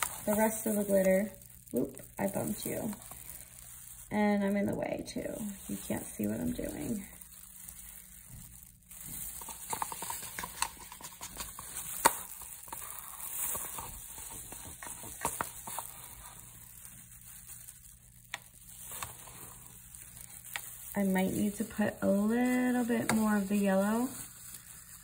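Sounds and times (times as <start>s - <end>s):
plastic glove and cup crinkling: 0.0s - 25.0s.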